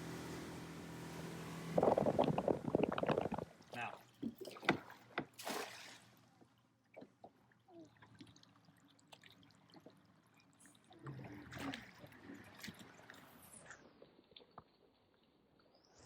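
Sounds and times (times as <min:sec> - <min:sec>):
water trickling and lapping: 0:00.0 - 0:16.0.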